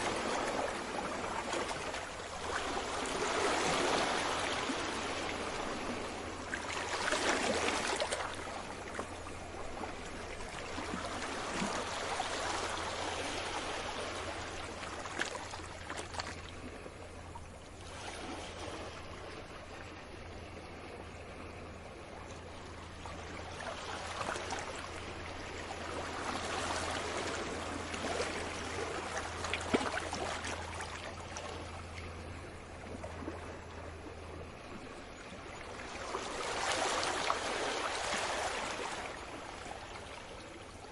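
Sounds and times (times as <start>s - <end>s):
small sea waves washing: 0.0s - 40.9s.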